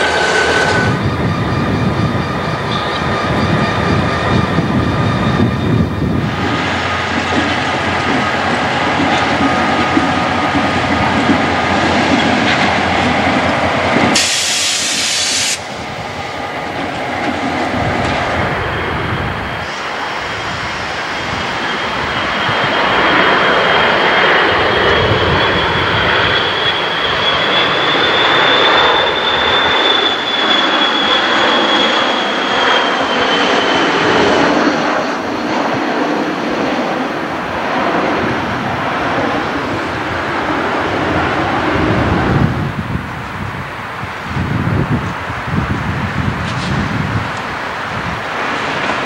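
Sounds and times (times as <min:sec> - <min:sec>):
jet aircraft passing overhead: 0:00.0 - 0:49.0.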